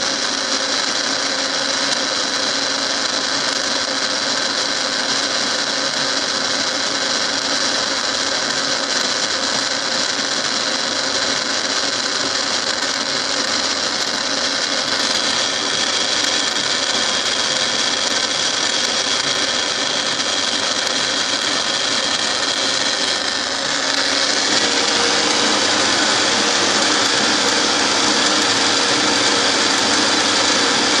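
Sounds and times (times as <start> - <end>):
milling machine cutting metal: 0.0 - 31.0.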